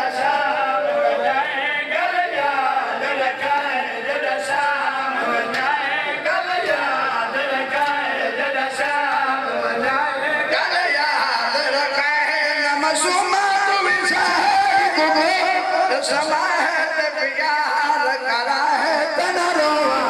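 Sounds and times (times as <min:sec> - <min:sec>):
voices chanting a lament: 0:00.0 - 0:20.0.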